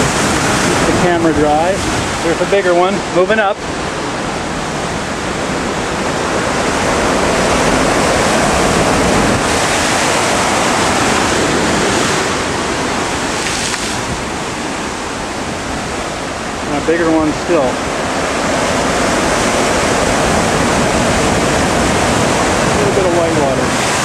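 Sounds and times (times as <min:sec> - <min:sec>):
ocean wave rushing through rocks: 0:00.0 - 0:24.0.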